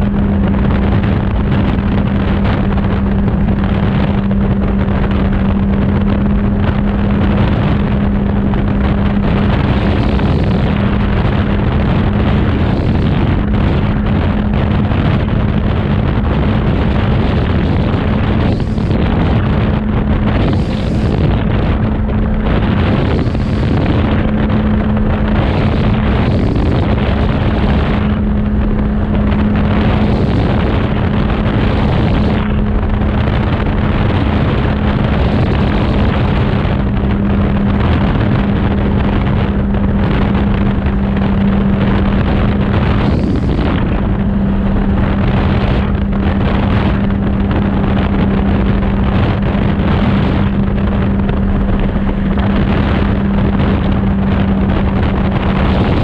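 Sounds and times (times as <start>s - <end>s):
aircraft engine droning: 0.0s - 56.0s
wind rushing over microphone: 0.0s - 56.0s.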